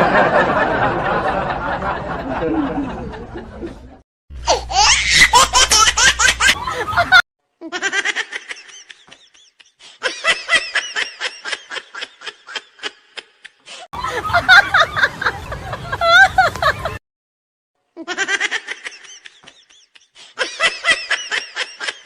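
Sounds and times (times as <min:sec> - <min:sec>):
high-pitched laughter: 0:02.3 - 0:17.0, 0:18.0 - 0:22.0.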